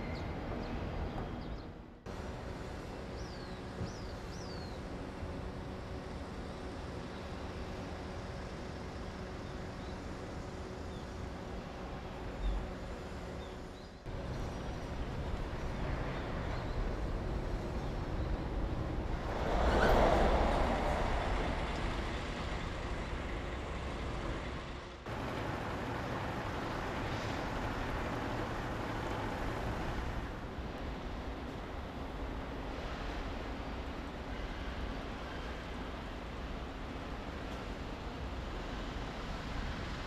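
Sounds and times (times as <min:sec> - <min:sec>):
diesel railcar engines idling: 0:00.0 - 0:40.0.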